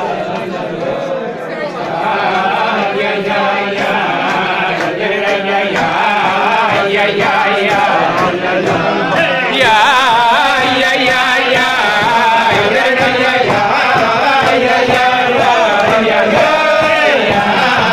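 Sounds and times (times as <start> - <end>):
group of men singing: 0.0 - 17.9.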